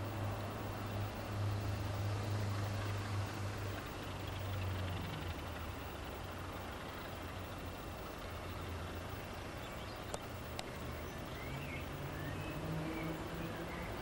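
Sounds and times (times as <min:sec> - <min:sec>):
birds chirping: 0:00.0 - 0:14.0
distant diesel locomotive engine: 0:00.0 - 0:14.0.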